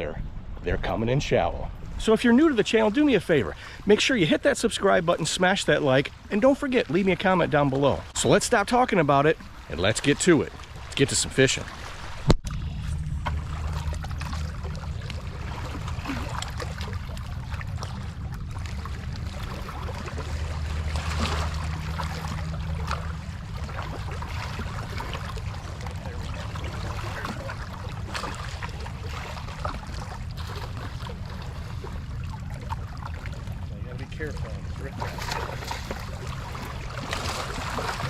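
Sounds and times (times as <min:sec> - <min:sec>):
steady low hum: 0:00.0 - 0:38.0
water lapping among rocks: 0:02.4 - 0:38.0.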